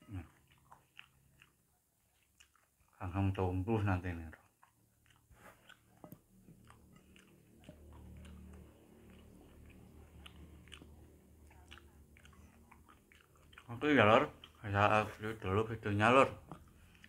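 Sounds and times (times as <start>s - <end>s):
faint chewing: 0.0s - 17.0s.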